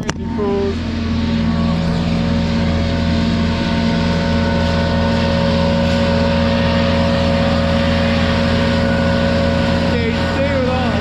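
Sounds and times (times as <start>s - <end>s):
machinery engine droning: 0.0s - 11.0s.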